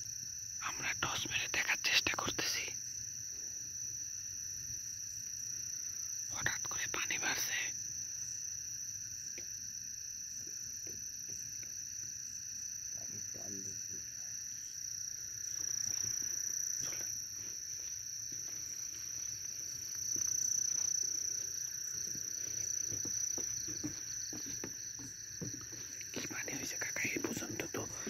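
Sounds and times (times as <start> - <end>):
night insects shrilling chorus: 0.0 - 28.0.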